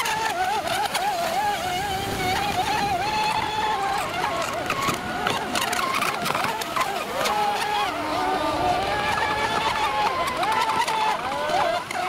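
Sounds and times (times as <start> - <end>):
model boat engine whining: 0.0 - 12.0.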